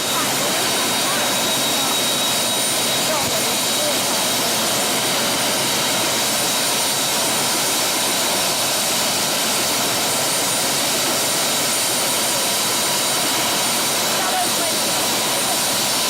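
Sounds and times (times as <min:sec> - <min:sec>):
helicopter turbine engine running: 0:00.0 - 0:16.0.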